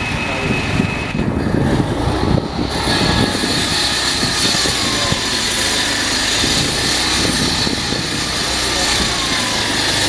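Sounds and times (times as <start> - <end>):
electric locomotive roar: 0.0 - 10.0.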